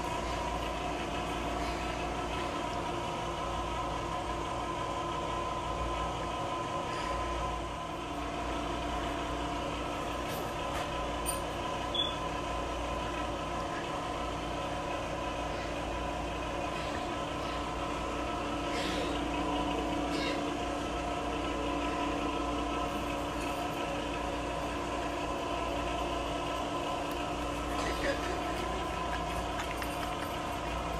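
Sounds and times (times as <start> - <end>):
mechanical hum: 0.0 - 30.9.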